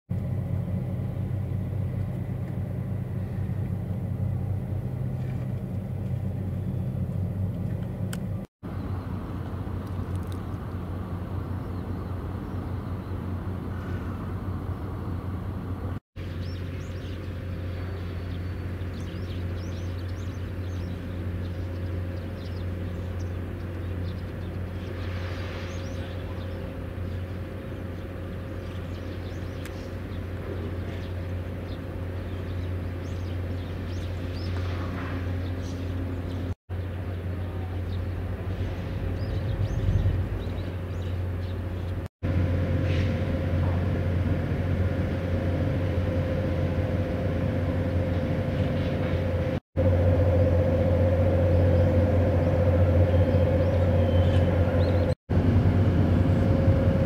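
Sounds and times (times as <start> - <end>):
low boat engine drone: 0.1 - 57.0.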